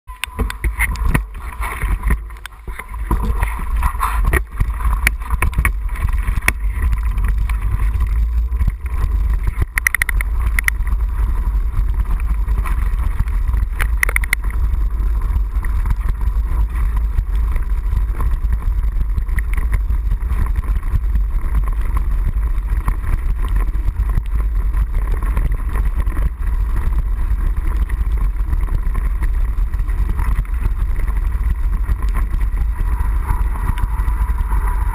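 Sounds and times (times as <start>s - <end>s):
bike rattling over bumps: 0.1s - 34.9s
wind rumbling on microphone: 0.1s - 34.9s.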